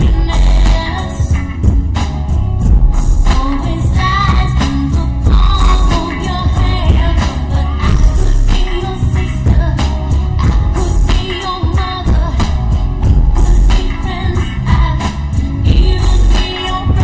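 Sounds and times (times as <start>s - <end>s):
heavily boosted bass: 0.0s - 17.0s
person singing over a beat: 3.3s - 17.0s.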